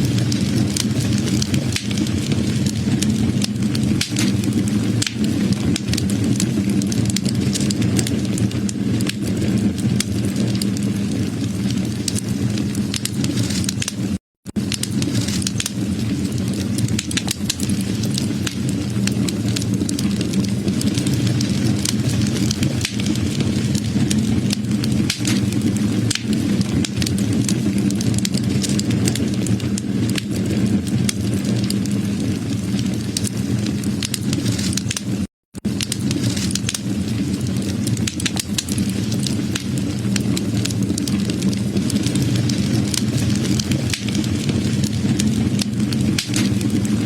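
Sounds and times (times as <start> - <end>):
low rumble of burning: 0.0 - 47.0
wood fire crackling and popping: 0.0 - 47.0.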